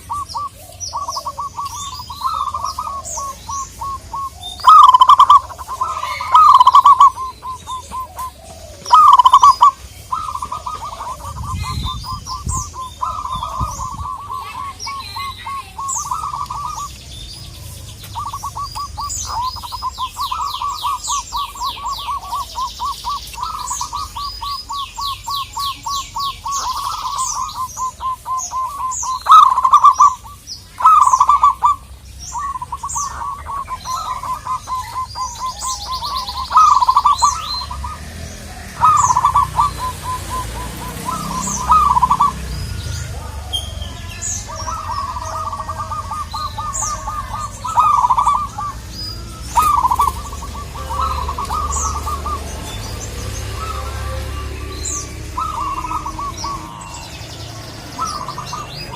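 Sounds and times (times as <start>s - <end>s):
doves cooing: 0.0s - 58.9s
small birds chirping: 0.0s - 58.9s.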